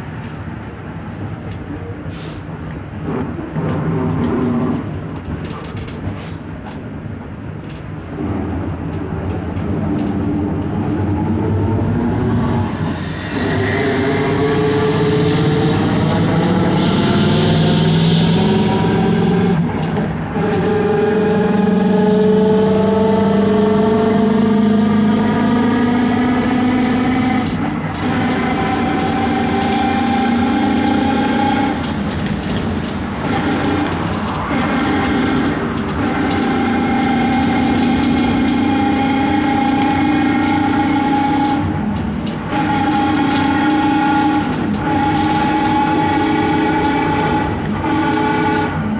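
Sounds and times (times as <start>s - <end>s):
bus diesel engine: 0.0s - 48.9s
drivetrain whine: 7.6s - 48.9s.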